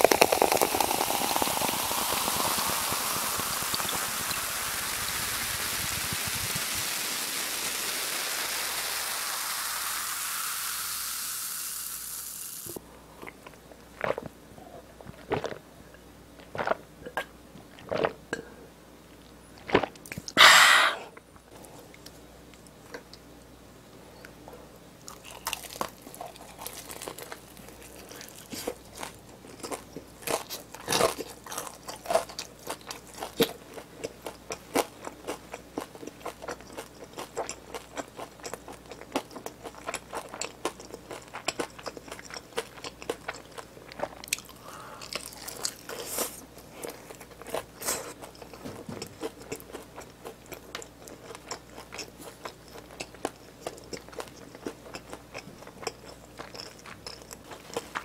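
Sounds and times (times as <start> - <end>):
crunchy chewing of fried chicken: 0.0 - 15.7, 25.0 - 58.0.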